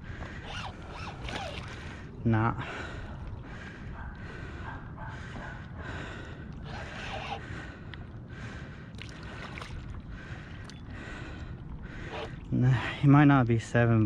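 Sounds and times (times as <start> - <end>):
man breathing hard: 1.7 - 13.0.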